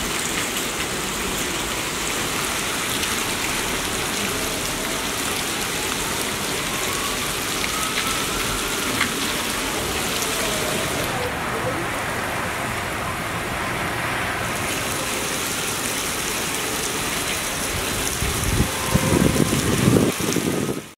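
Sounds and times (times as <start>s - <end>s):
heavy rain splashing on tiles: 0.0s - 20.9s.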